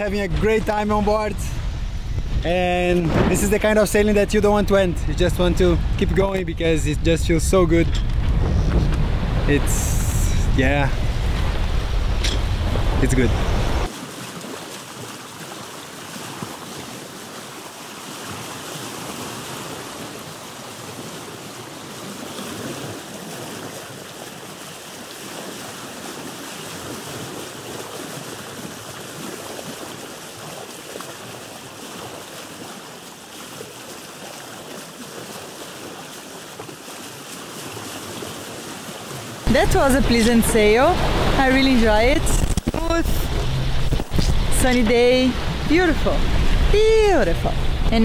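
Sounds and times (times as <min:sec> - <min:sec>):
water rushing along boat hull: 0:00.0 - 0:48.0
wind: 0:00.0 - 0:48.0.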